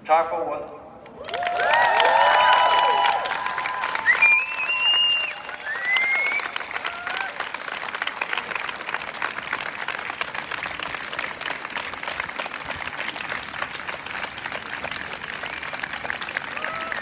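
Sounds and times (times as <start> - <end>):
crowd applauding: 1.1 - 17.0.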